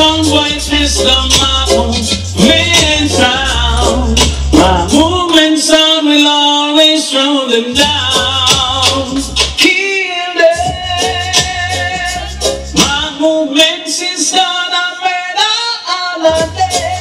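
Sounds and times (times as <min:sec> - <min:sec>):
reggae music with male singing: 0:00.0 - 0:17.0.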